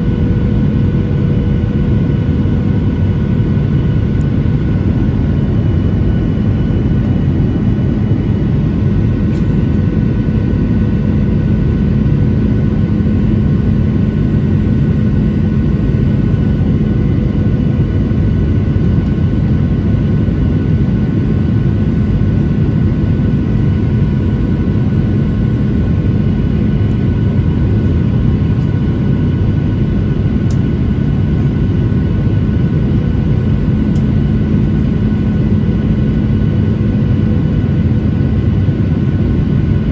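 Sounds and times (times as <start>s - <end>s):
airplane cabin engine rumble: 0.0s - 39.9s
steady hum: 0.0s - 39.9s.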